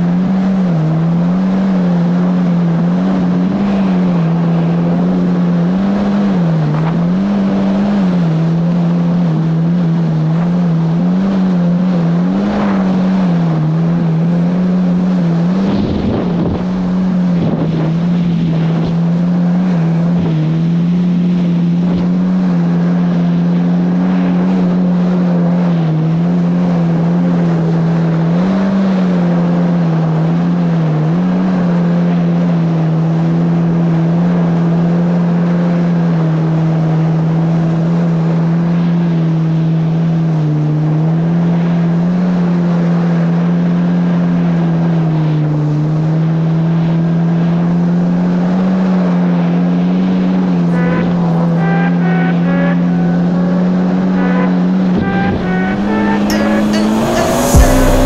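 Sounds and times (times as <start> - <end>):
jet ski engine droning: 0.0 - 58.0
wind: 0.0 - 58.0.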